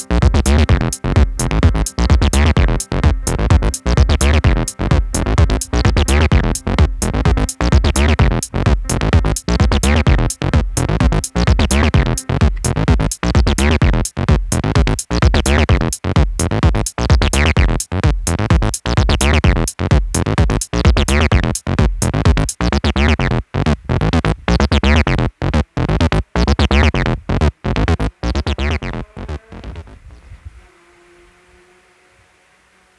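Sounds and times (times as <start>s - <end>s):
drum-machine beat: 0.0s - 29.1s
electronic keyboard parts: 0.0s - 30.1s
synth bass: 0.0s - 30.1s.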